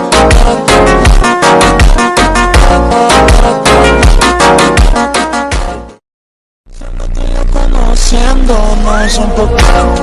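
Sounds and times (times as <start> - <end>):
electronic music with fast beat: 0.0 - 5.8, 6.8 - 10.0.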